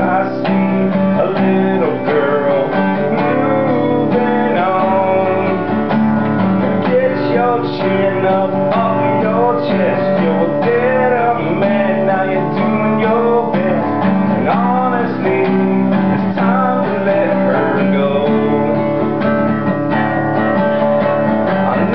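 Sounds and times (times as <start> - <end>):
person singing: 0.0 - 19.2, 21.6 - 21.9
acoustic guitar strumming: 0.0 - 21.9.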